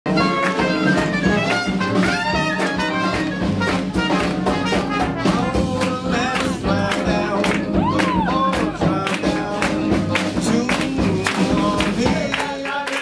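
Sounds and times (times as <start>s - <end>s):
swing jazz band playing: 0.0s - 12.6s.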